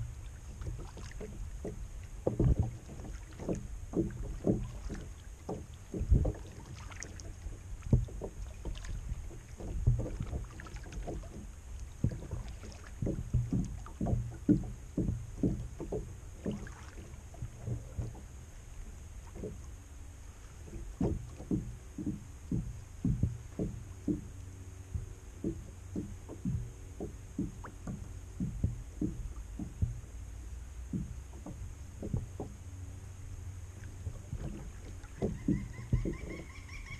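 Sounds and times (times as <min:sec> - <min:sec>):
dull knocks: 0:00.0 - 0:19.7, 0:20.6 - 0:30.2, 0:30.8 - 0:32.6, 0:33.8 - 0:36.9
paddle strokes in water: 0:00.0 - 0:36.9
steady low rumble: 0:00.0 - 0:36.9.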